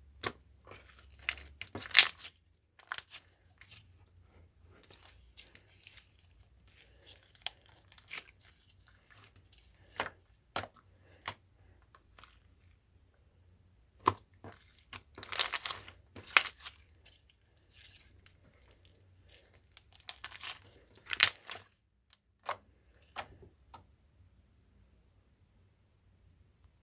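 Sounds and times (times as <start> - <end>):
crinkling and tearing crackles: 0.6 - 12.8, 14.0 - 23.5.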